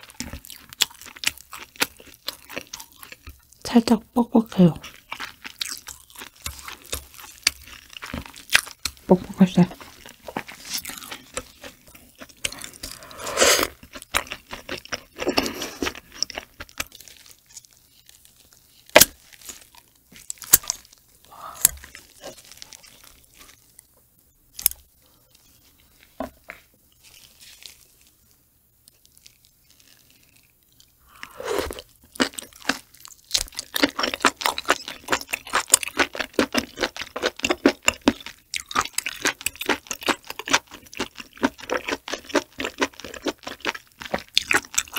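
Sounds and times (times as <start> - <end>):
sticky crackly chewing: 0.0 - 3.5, 4.8 - 23.9, 28.8 - 44.9.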